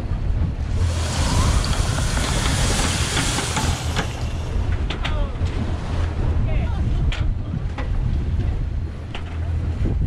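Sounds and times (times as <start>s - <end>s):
wind buffeting microphone: 0.0s - 10.0s
water rushing along hulls: 0.1s - 9.8s.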